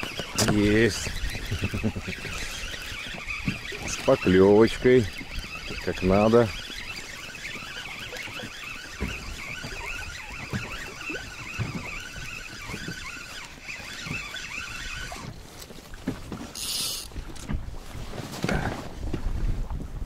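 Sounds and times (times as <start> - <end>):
fishing reel whining: 0.0 - 15.5, 16.5 - 17.5.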